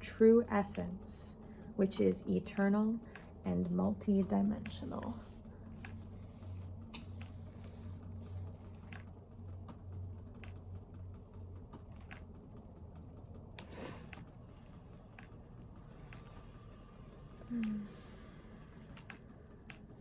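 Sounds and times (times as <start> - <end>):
light clicks and taps: 0.0 - 20.0
low steady hum: 0.0 - 20.0.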